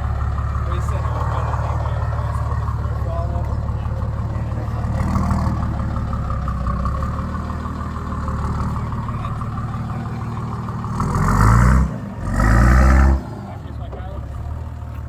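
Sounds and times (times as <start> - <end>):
engine revving: 0.0 - 14.7.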